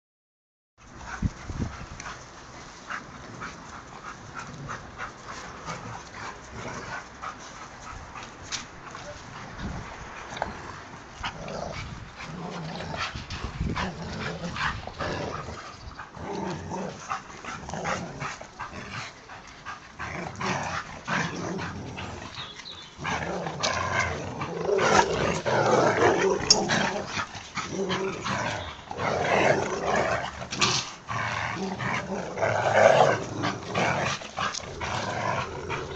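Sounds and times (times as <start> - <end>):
dogs growling: 3.1 - 8.3, 9.4 - 35.9.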